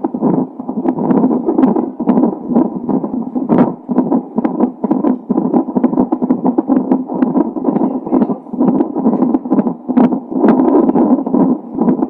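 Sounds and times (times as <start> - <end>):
fetal heartbeat on doppler monitor: 0.0 - 12.0.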